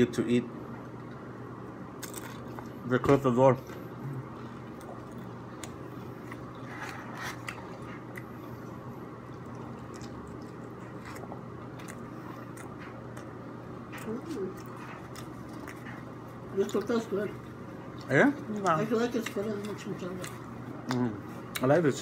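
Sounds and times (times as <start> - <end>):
low steady hum: 0.0 - 22.0
person chewing a taco: 2.0 - 2.8, 3.7 - 21.7.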